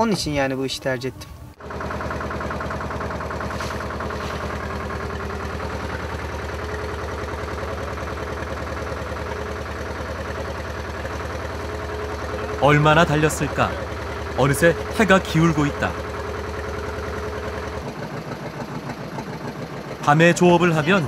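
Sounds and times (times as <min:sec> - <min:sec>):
boat engine running: 0:01.2 - 0:21.0.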